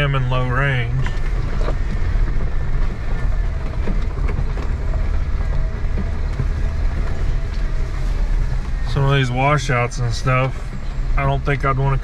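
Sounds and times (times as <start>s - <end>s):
engine and drivetrain rumble: 0.0s - 12.0s
vehicle knocks and rattles: 0.0s - 12.0s.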